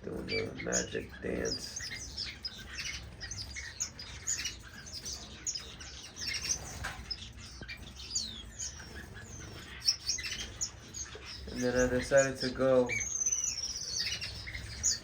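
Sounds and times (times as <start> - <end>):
finches chirping: 0.0 - 15.0.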